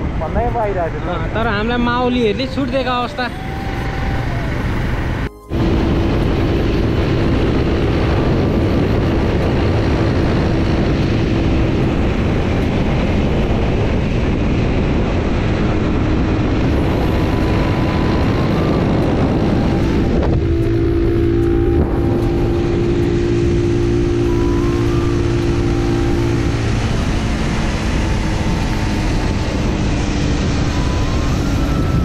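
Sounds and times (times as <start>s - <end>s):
motorcycle hum: 0.0s - 32.0s
wind buffeting microphone: 0.0s - 32.0s.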